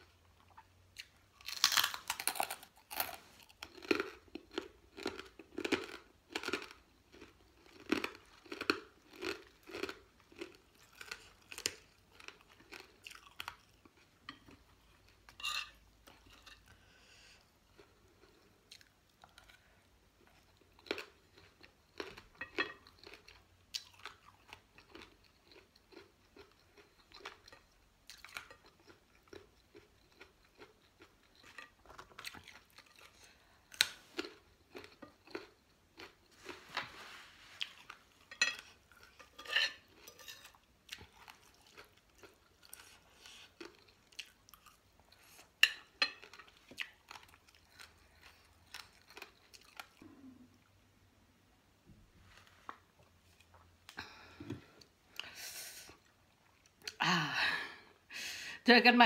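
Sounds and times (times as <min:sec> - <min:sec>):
person chewing crunchy vegetables: 0:00.0 - 0:50.8.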